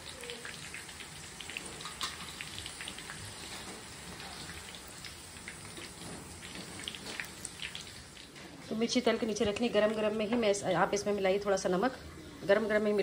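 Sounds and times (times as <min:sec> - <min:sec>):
chillies sizzling in hot oil: 0:00.0 - 0:13.0.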